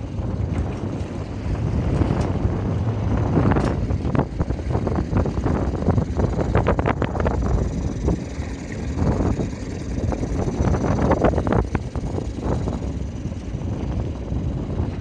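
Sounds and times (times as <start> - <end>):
waves slapping against hull: 0.0 - 15.0
wind buffeting microphone: 0.0 - 15.0.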